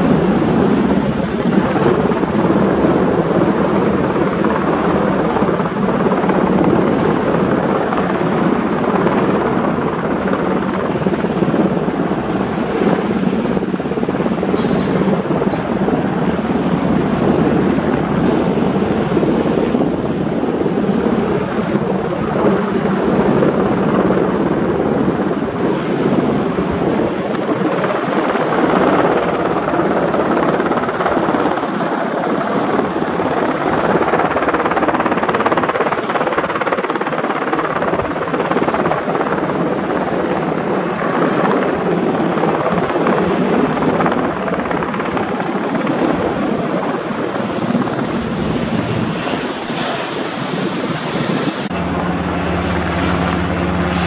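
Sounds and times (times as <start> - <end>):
helicopter hovering overhead: 0.0 - 54.0.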